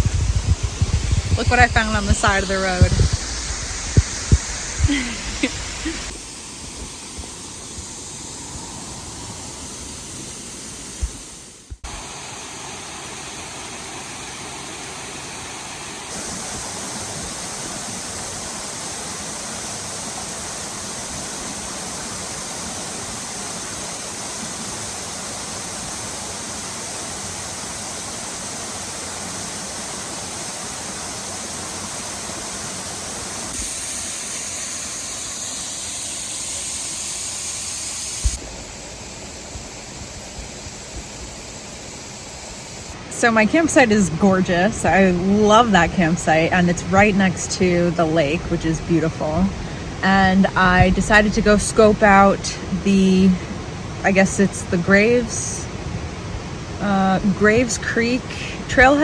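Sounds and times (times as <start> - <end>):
falling water rushing: 0.0 - 52.7.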